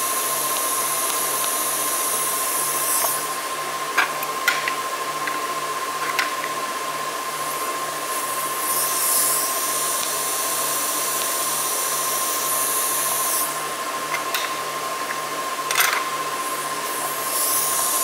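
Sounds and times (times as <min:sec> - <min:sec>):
welding arc hiss-buzz: 0:00.0 - 0:18.0.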